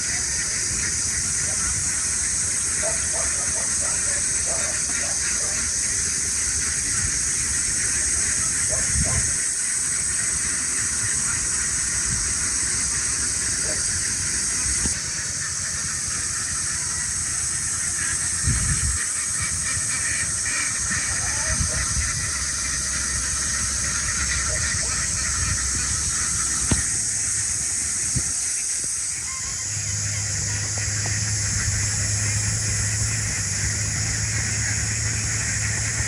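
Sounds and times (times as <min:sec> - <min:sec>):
wind rumble on microphone: 0:00.4 - 0:09.6, 0:10.2 - 0:15.0, 0:18.1 - 0:36.0.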